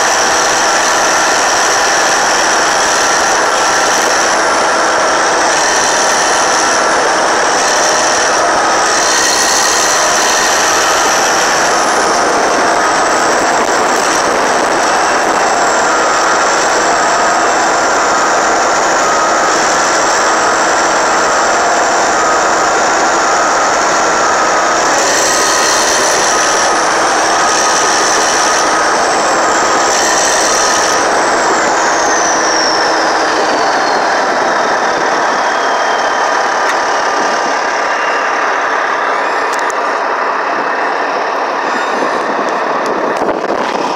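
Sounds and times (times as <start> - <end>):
bulldozer diesel engine running: 0.0 - 43.9
high whine: 0.0 - 43.9
tracks clattering: 0.0 - 43.9.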